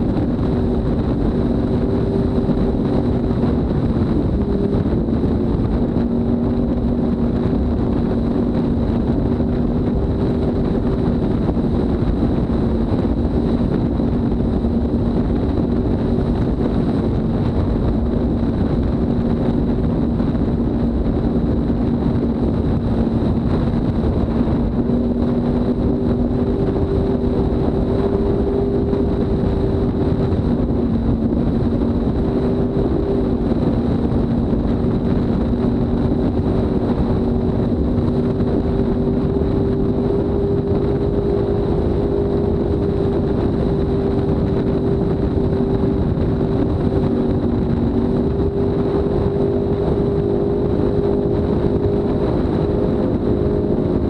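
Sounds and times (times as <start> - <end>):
outboard engine at high speed: 0.0 - 54.0
rush of wind and water: 0.0 - 54.0.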